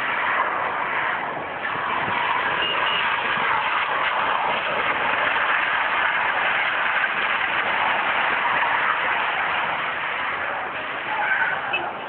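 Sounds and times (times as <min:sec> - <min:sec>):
tyres on wet road: 0:00.0 - 0:12.0.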